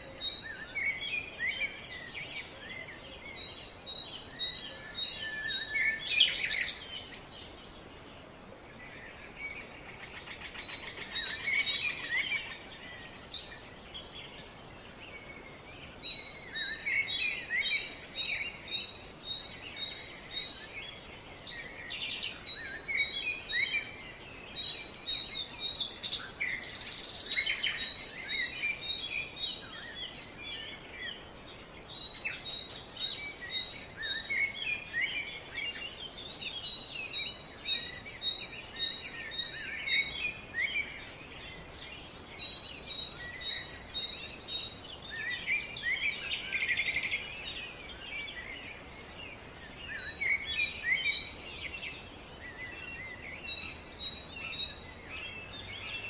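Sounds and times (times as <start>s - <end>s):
faint background hiss: 0.0s - 56.0s
small birds singing: 0.0s - 56.0s.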